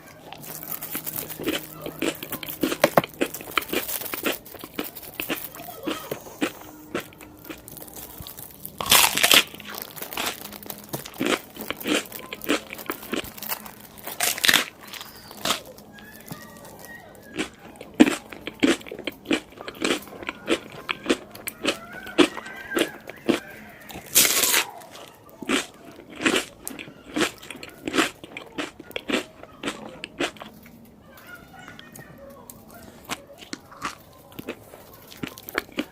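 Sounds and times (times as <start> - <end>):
crisp chewing: 0.0 - 35.9
crunchy food bites: 0.1 - 30.6, 32.6 - 35.9.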